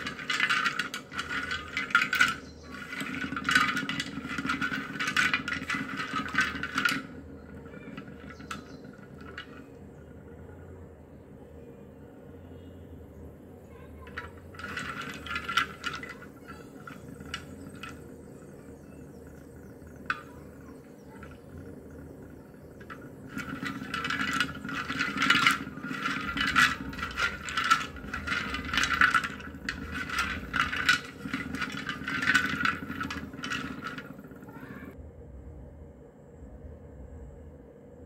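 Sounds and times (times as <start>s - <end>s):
wet pencils clattering in a pan: 0.0s - 9.8s, 14.0s - 35.0s
low steady hum: 0.0s - 38.0s.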